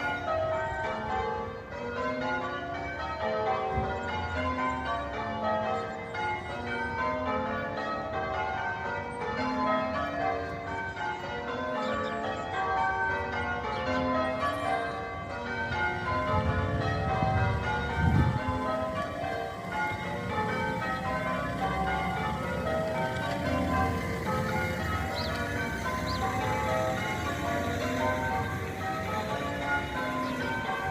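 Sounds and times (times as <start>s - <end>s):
church bells ringing: 0.0s - 30.9s.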